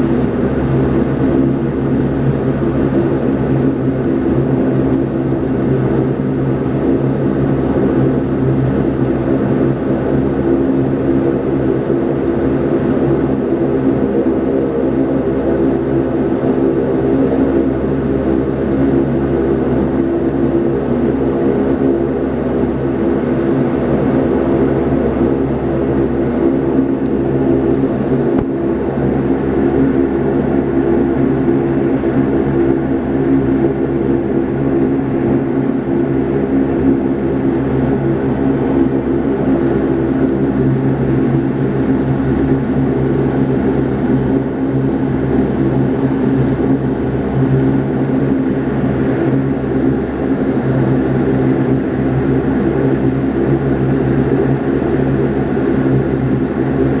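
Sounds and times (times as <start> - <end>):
turboprop cabin drone: 0.0 - 57.0.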